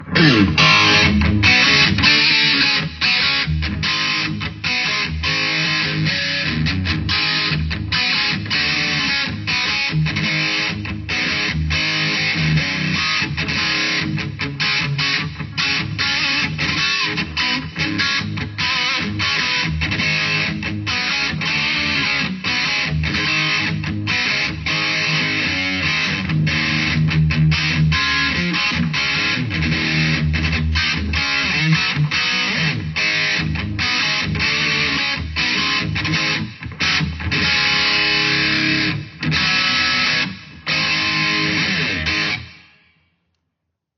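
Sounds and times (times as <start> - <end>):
clean electric guitar: 0.0 - 43.1.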